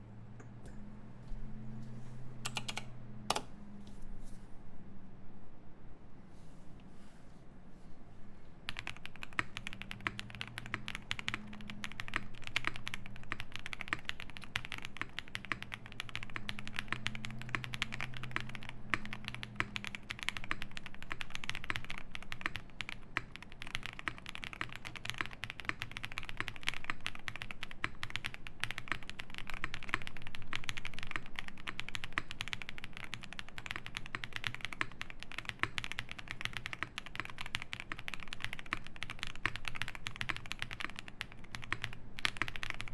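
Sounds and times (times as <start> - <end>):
fast mechanical keyboard typing: 2.4 - 3.5, 8.7 - 42.9.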